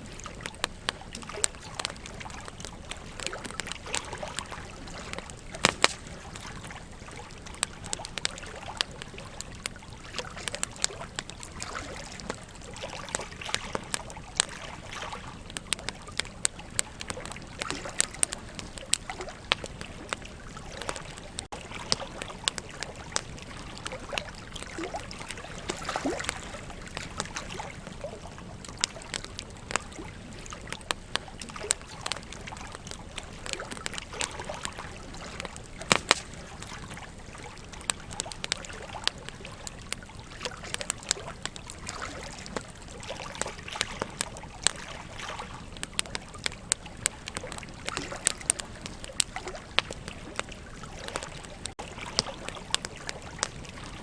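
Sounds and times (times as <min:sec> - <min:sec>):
campfire crackling and popping: 0:00.0 - 0:54.0
river water flowing: 0:00.0 - 0:54.0.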